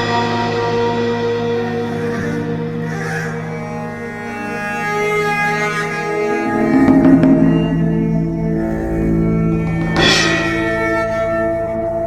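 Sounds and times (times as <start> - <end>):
low bowed strings music: 0.0 - 12.0.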